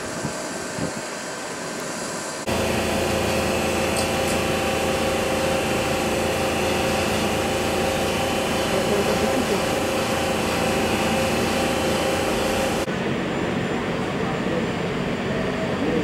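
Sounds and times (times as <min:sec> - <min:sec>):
railway station mechanical hum: 0:00.0 - 0:16.0.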